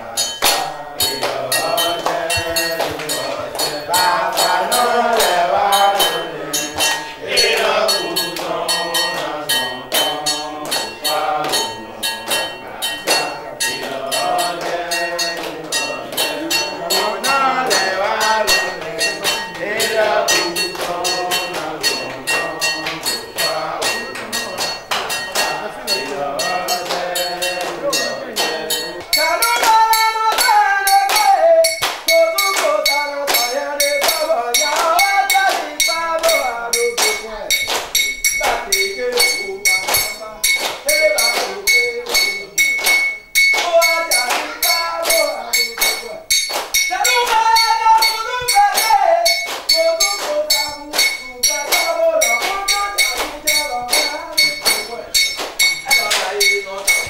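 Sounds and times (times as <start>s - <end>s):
rhythmic percussion strikes: 0.0s - 57.0s
voices chanting a song: 0.0s - 57.0s.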